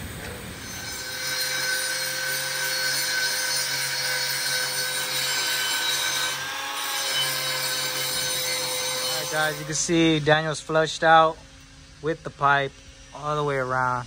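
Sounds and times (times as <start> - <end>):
welding arc buzzing hiss: 0.0 - 14.0.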